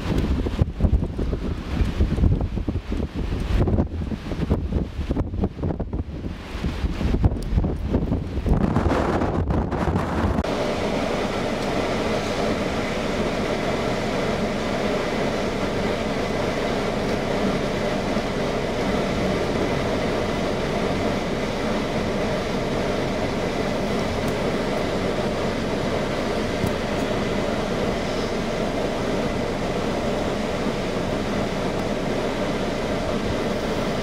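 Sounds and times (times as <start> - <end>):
wind gusting across microphone: 0.0 - 34.0.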